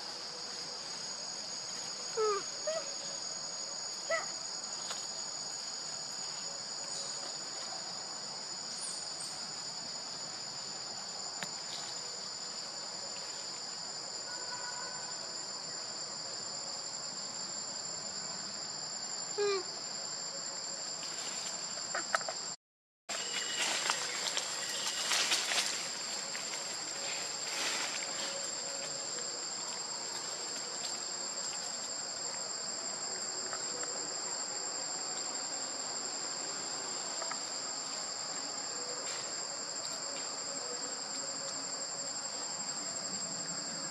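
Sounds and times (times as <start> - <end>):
high-pitched insect chorus: 0.0 - 43.9.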